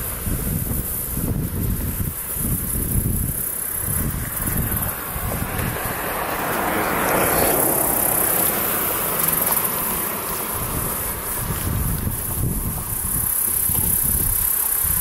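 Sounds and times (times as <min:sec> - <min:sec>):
insects buzzing: 0:00.0 - 0:15.0
wind rumbling on microphone: 0:00.0 - 0:15.0.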